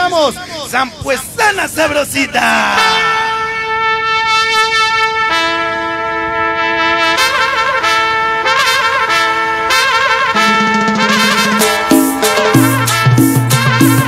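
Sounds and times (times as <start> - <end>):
trumpets playing chords and stabs: 0.0 - 14.0.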